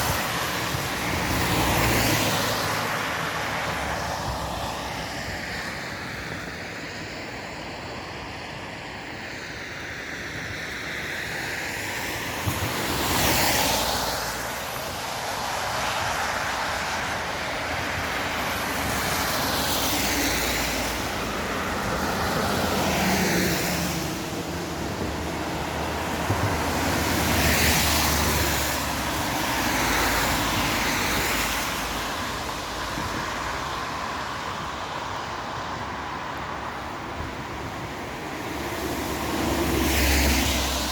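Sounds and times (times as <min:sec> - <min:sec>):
rushing tyre hiss: 0:00.0 - 0:40.9
vehicles passing on wet road: 0:00.0 - 0:40.9.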